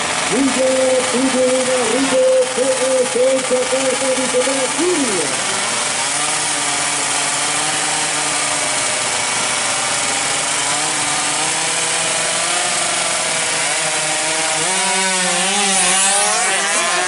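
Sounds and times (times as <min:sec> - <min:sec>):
motorbike engines revving: 0:00.0 - 0:17.0.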